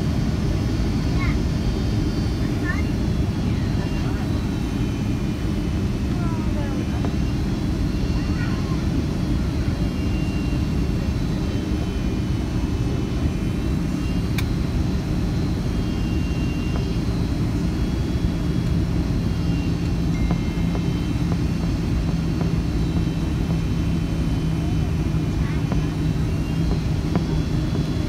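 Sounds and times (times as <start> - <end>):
airplane cabin rumble: 0.0 - 28.0
low hum: 0.0 - 28.0.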